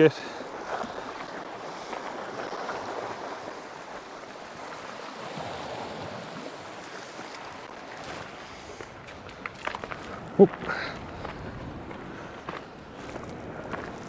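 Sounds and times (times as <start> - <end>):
sea waves washing over rocks: 0.0 - 11.9.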